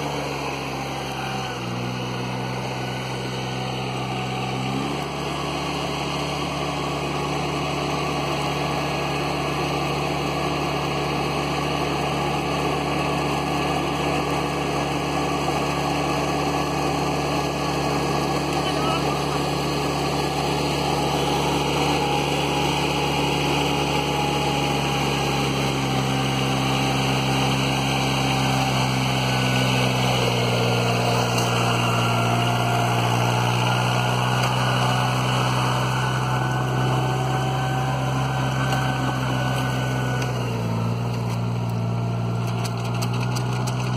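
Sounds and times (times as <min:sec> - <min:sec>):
transplanter engine running: 0:00.0 - 0:43.9.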